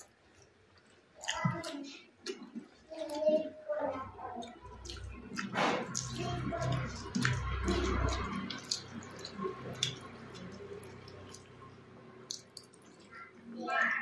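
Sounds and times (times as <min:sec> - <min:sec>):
wet eating sounds: 0:00.0 - 0:14.0.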